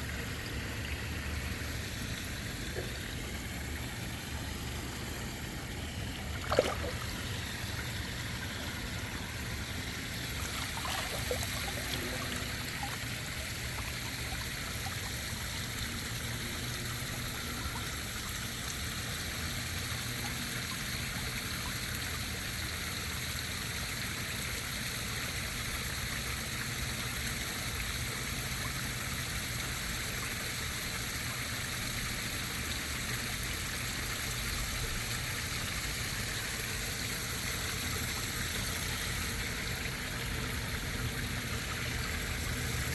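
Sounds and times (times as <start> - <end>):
water trickling in pond: 0.0 - 42.9.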